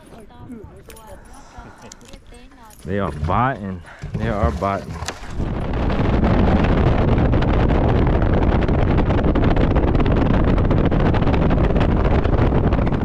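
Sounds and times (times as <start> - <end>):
boat motor and hull noise: 0.0 - 13.0
wind buffeting microphone: 0.0 - 13.0.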